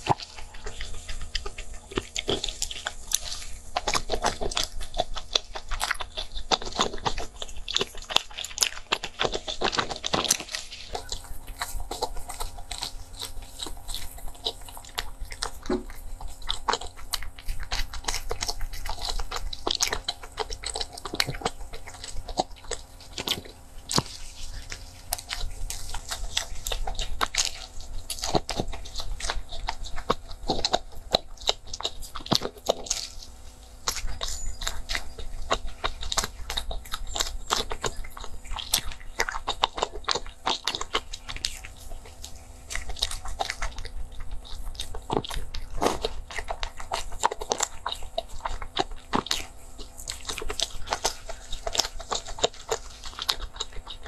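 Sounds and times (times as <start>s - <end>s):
chewing and biting pastry: 0.0s - 54.0s
faint steady hum: 0.0s - 54.0s.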